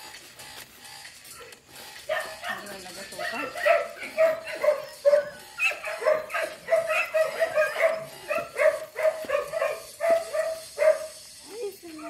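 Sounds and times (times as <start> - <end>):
dog yapping: 1.3 - 11.2.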